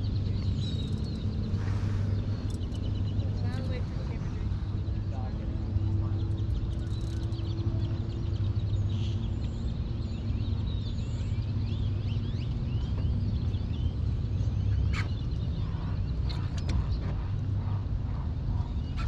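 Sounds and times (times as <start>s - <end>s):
birds chirping and whistling: 0.0s - 19.0s
steady low hum: 0.0s - 19.0s.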